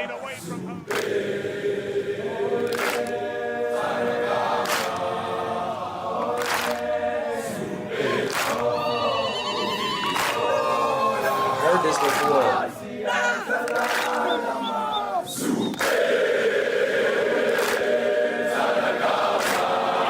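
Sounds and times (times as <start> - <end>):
boys chanting in unison: 0.3 - 20.0.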